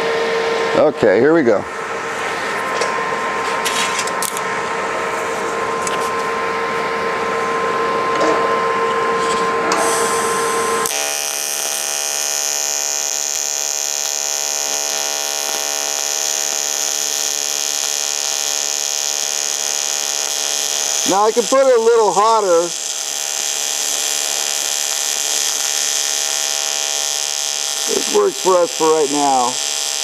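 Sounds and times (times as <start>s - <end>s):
welding arc buzzing: 0.0s - 7.8s, 9.7s - 30.0s
steady hum: 0.0s - 30.0s.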